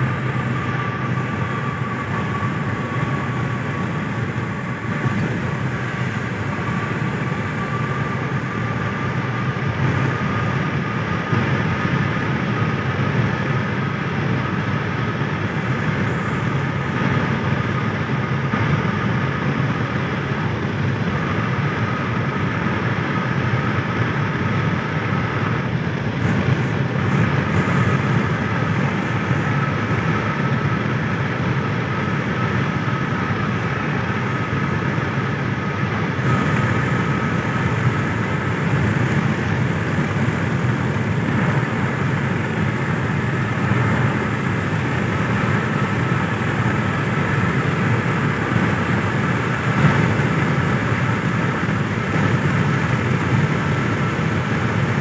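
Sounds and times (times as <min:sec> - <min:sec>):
road and tyre noise in car: 0:00.0 - 0:55.0.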